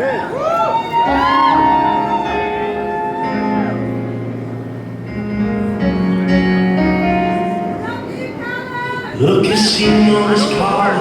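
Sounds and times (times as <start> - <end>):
live band playing: 0.7 - 11.0
held guitar chords: 0.8 - 8.4, 9.2 - 11.0.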